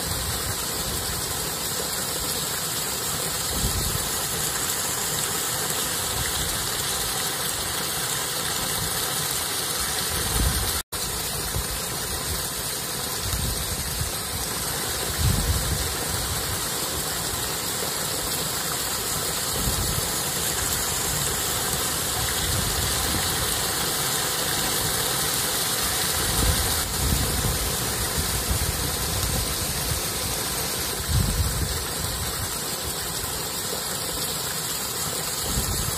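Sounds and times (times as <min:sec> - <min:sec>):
water spilling over stone ledge: 0:00.0 - 0:35.9.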